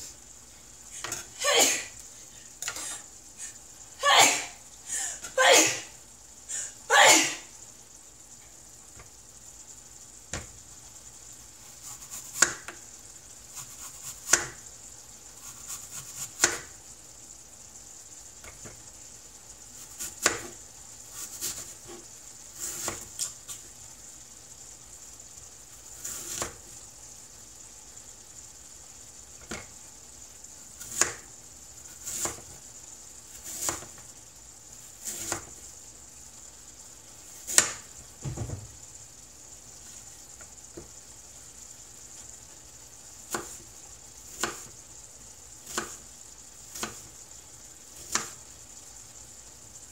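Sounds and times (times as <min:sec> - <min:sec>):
meat sizzling in a skillet: 0:00.0 - 0:49.9.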